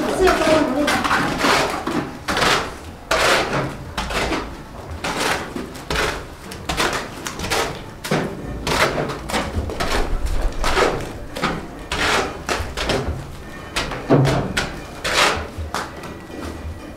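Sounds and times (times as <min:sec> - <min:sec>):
hoe scraping through wet mortar: 0:00.0 - 0:16.7.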